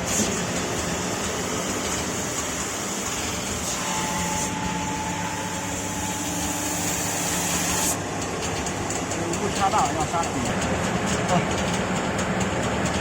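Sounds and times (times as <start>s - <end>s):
sanding machine hiss and hum: 0.0s - 10.4s
thin machine whine: 0.0s - 10.8s.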